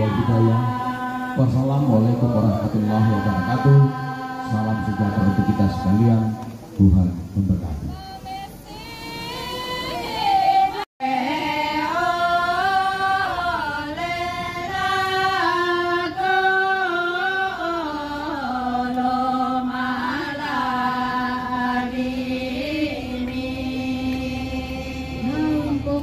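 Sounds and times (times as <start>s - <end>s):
women chanting slow melody: 0.0s - 6.8s, 7.9s - 26.0s.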